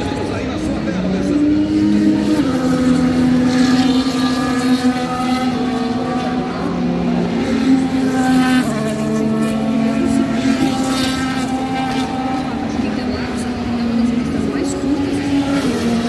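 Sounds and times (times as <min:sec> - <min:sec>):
racing car engines: 0:00.0 - 0:16.0.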